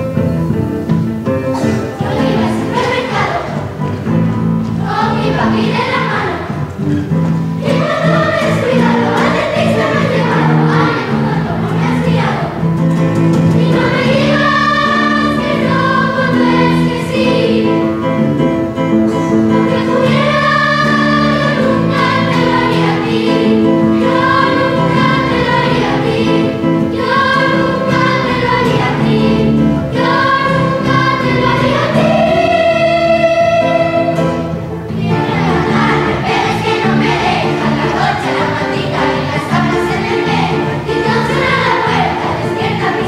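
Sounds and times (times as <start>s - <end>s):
children's choir singing: 0.0s - 43.0s
guitar accompaniment: 0.0s - 43.0s.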